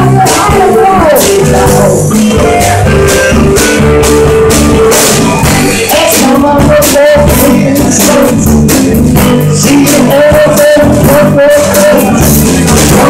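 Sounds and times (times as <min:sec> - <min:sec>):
rhythm and blues band playing: 0:00.0 - 0:13.0.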